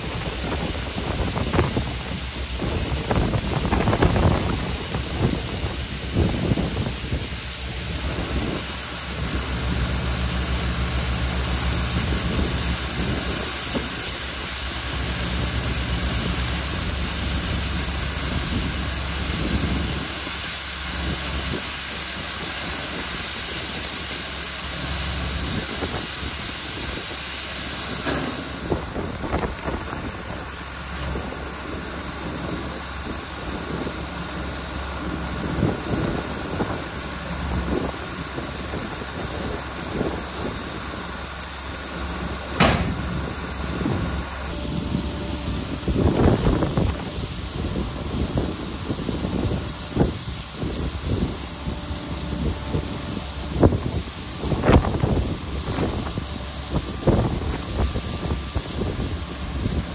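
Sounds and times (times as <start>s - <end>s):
tractor engine humming: 0.0s - 59.9s.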